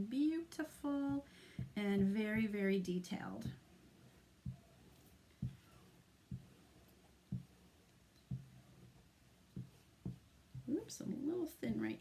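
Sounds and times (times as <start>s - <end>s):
low soft thuds: 0.0s - 11.5s.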